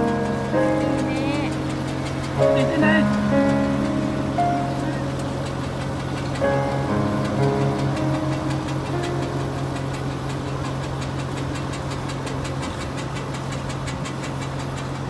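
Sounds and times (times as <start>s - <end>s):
rapid implement clatter: 0.0s - 15.0s
tractor engine under load: 0.0s - 15.0s.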